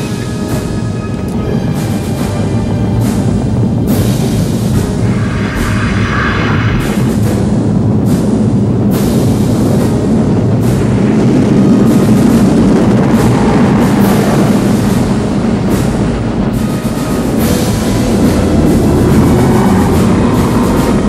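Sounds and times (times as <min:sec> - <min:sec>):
dramatic film score with drums: 0:00.0 - 0:21.0
loud steady rumble: 0:00.0 - 0:21.0.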